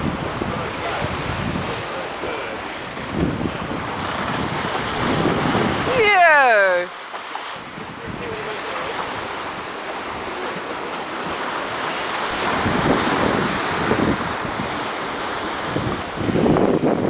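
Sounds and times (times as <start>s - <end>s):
water splashing along hull: 0.0s - 17.0s
wind buffeting microphone: 0.0s - 17.0s.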